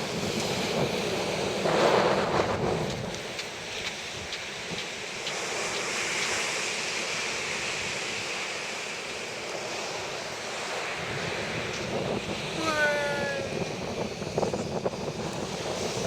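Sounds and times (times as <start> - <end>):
sea waves washing onto shore: 0.0 - 16.0
wind buffeting microphone: 0.0 - 16.0.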